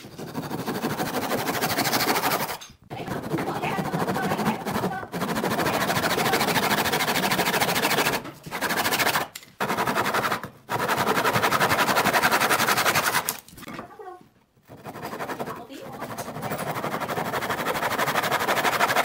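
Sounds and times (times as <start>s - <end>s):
handsaw cutting wood: 0.0s - 13.4s, 14.7s - 19.0s.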